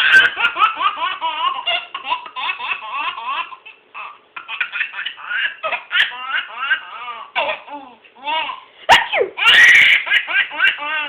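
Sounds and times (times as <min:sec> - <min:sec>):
baby laughing: 0:00.0 - 0:11.0.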